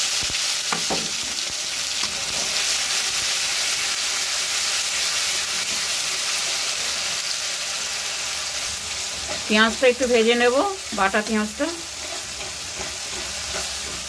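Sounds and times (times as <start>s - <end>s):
onion paste sizzling in oil: 0.0s - 14.0s.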